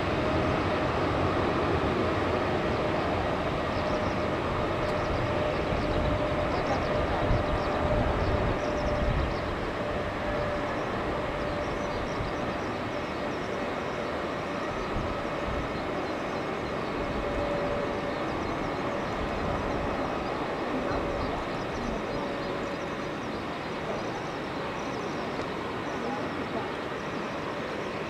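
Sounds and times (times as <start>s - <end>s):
distant jet engines rumbling: 0.0s - 28.0s.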